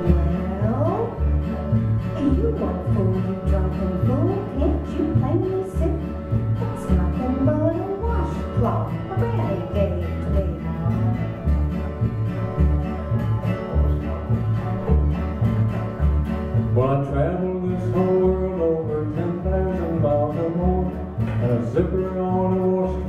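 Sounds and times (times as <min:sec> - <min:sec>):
bluegrass band playing: 0:00.0 - 0:23.0
lead melody line: 0:00.0 - 0:23.0.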